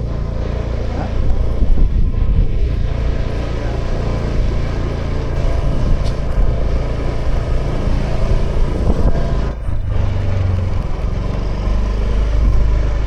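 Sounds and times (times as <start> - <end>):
road and wind noise: 0.0 - 13.0
scooter engine running: 0.0 - 13.0.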